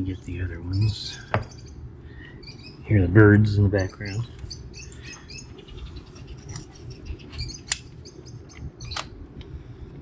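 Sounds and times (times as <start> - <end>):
parakeets chirping: 0.0 - 9.1.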